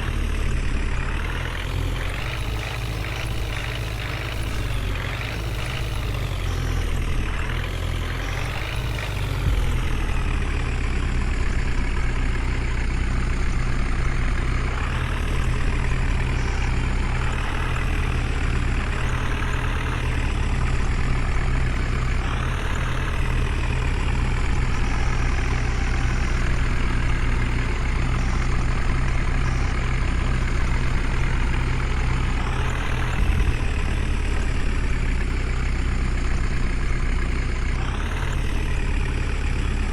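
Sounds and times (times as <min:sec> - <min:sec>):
diesel engine running and revving: 0:00.0 - 0:39.9.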